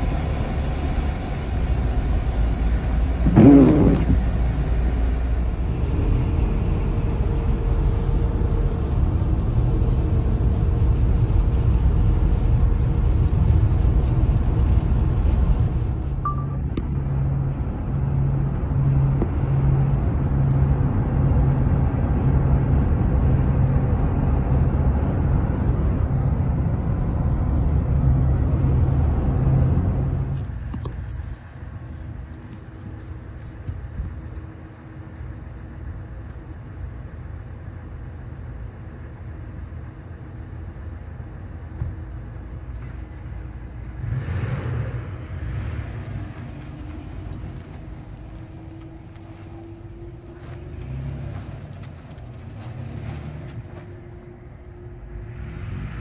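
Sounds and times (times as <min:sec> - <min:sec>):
car road and tyre rumble: 0:00.0 - 0:56.0.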